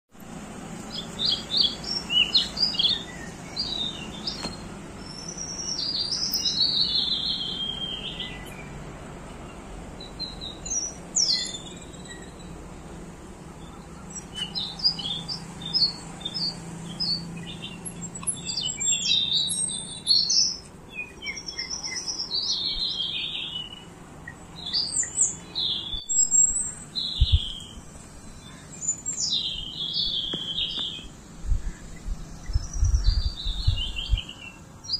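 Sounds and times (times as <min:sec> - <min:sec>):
small birds chirping: 0:00.2 - 0:34.9.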